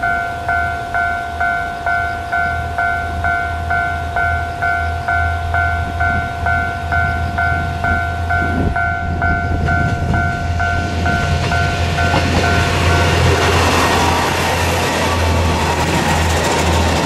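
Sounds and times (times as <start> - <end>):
warning bell dinging: 0.0 - 15.4
diesel railcar passing: 0.0 - 17.0.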